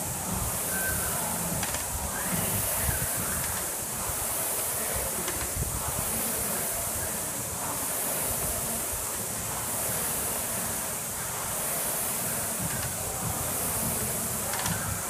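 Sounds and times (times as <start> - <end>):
rowing machine fan whooshing: 0.0 - 15.0.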